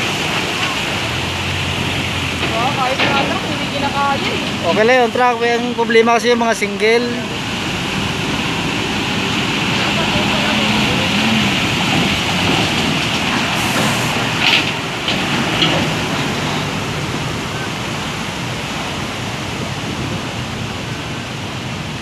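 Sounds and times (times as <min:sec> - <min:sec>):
sharp water splashes: 0:00.0 - 0:05.7, 0:06.5 - 0:22.0
churning surging water: 0:00.0 - 0:22.0
traffic noise: 0:00.0 - 0:22.0
vehicles driving through floodwater: 0:00.0 - 0:22.0.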